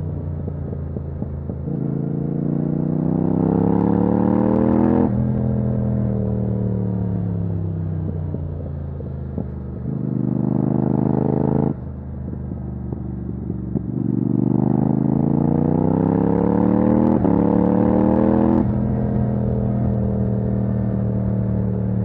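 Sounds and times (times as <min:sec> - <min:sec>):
motorcycle engine revving: 0:01.2 - 0:07.5, 0:09.4 - 0:11.8, 0:12.9 - 0:22.0.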